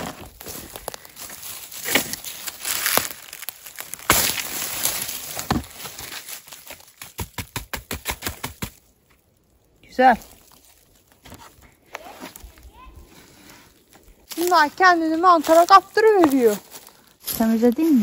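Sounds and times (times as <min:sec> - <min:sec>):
crinkling and rustling handling noise: 0:00.0 - 0:07.0, 0:08.9 - 0:18.0.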